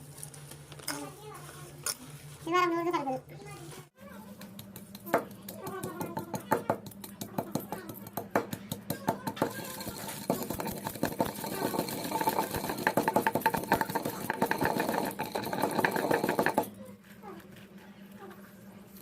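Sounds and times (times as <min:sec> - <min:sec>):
dough mixed by hand in bowl: 0:00.0 - 0:19.0.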